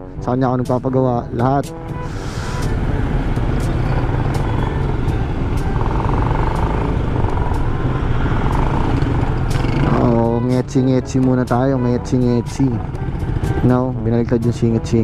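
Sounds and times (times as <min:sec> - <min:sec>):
motorcycle engine running: 0:02.6 - 0:14.8.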